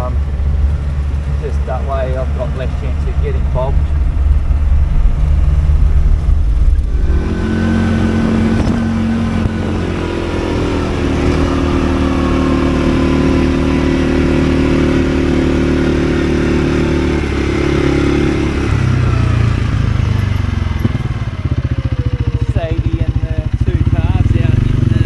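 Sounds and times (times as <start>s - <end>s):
farm vehicle engine revving: 0.0s - 25.0s.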